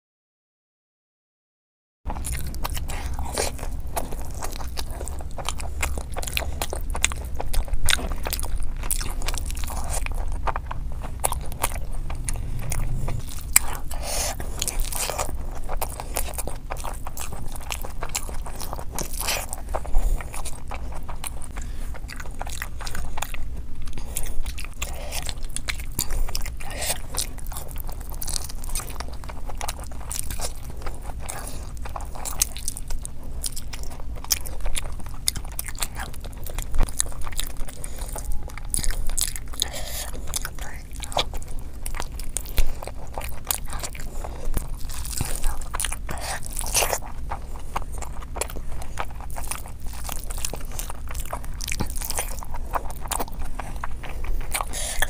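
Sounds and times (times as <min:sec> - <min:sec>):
low steady hum: 0:02.1 - 0:55.0
person chewing food: 0:02.1 - 0:55.0.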